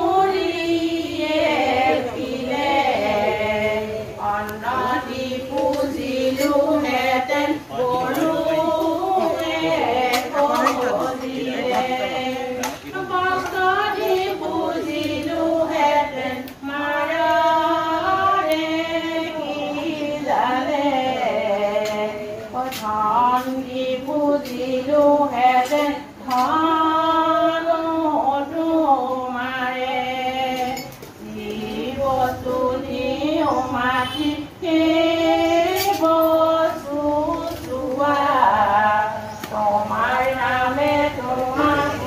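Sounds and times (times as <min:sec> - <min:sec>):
women singing devotional song: 0:00.0 - 0:42.0.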